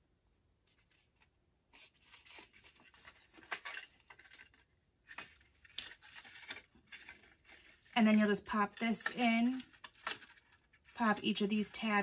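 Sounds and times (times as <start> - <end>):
paper rubbing and scraping: 0.8 - 11.1.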